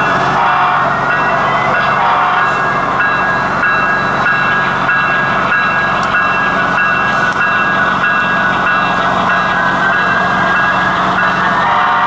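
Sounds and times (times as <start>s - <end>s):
model train whine and hum: 0.0s - 12.0s.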